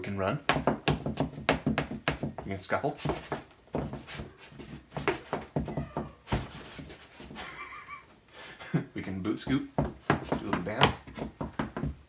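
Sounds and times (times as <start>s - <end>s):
shoes scuffing on a floor: 0.5s - 7.6s, 9.4s - 12.0s.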